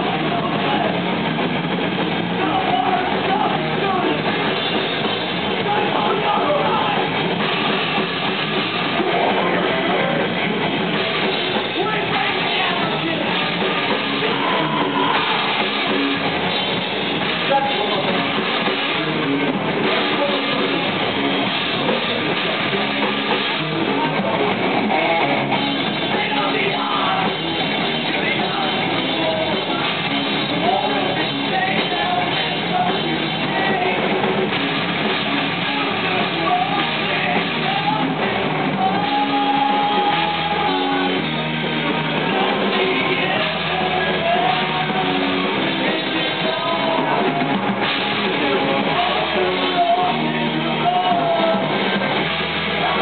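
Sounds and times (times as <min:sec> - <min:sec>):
drum kit: 0:00.0 - 0:53.0
electric guitar: 0:00.0 - 0:53.0
person singing: 0:02.3 - 0:07.3, 0:08.8 - 0:34.5, 0:35.2 - 0:53.0.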